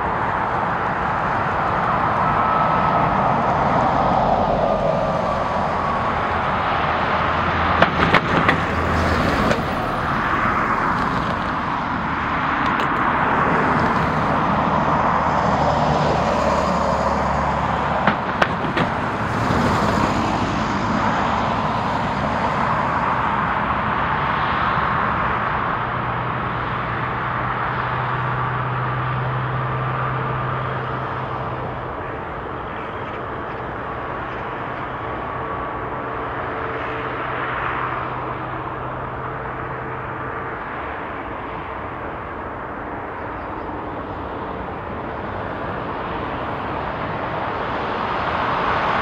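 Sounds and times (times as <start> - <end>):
jet engines roaring: 0.0 - 49.0
road traffic noise: 0.0 - 49.0.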